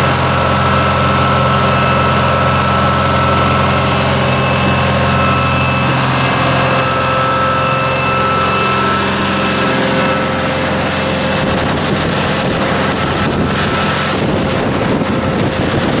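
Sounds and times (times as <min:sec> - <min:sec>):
boat diesel engine humming: 0:00.0 - 0:16.0
water rushing along hull: 0:00.0 - 0:16.0
wind buffeting microphone: 0:00.0 - 0:16.0.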